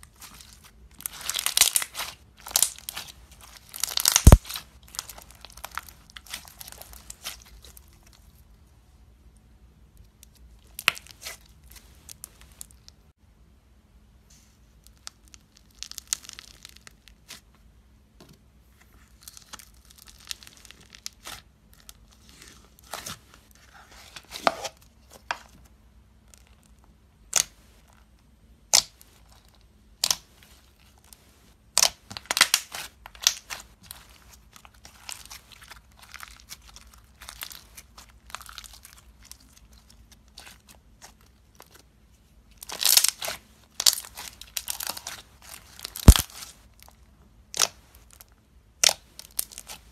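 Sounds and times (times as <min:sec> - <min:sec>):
crunchy slime crackling: 0:00.0 - 0:08.7, 0:10.0 - 0:13.0, 0:14.4 - 0:17.5, 0:19.0 - 0:25.6, 0:28.7 - 0:49.9.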